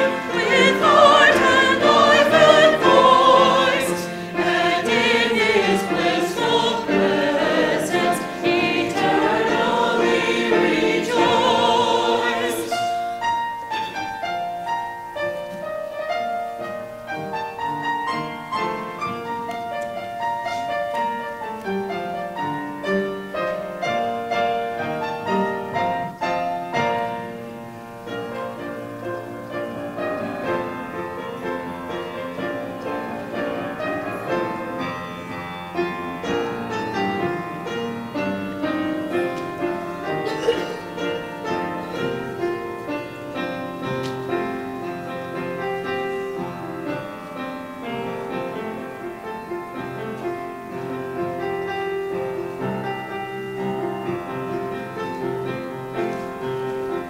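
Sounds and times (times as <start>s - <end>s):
slow gentle piano piece: 0.0s - 57.0s.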